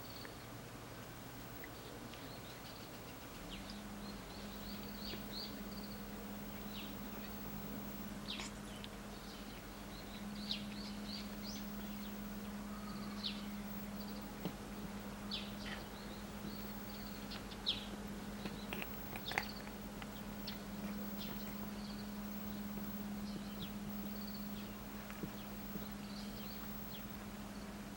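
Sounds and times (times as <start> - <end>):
small birds chirping: 0.0 - 27.9
steady low hum: 0.0 - 27.9.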